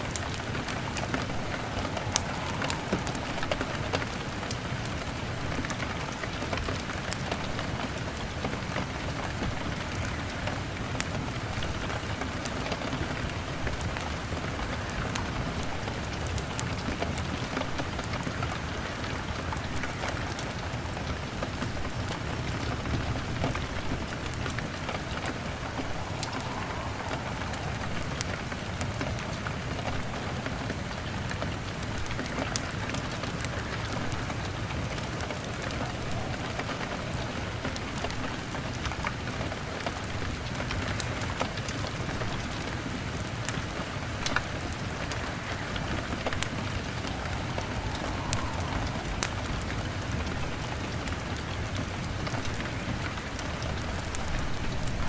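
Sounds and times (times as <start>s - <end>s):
rain on window glass: 0.0s - 55.0s
wood fire crackling: 0.0s - 55.0s.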